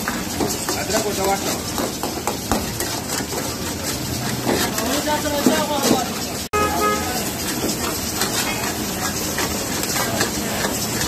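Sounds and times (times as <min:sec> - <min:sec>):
food sizzling in a wok: 0:00.0 - 0:11.0
ladle scraping a pan: 0:00.0 - 0:11.0.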